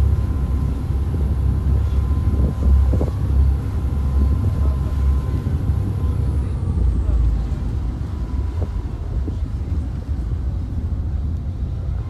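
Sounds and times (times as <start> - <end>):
faint steady whine: 0.0 - 12.0
ferry engines rumbling: 0.0 - 12.0.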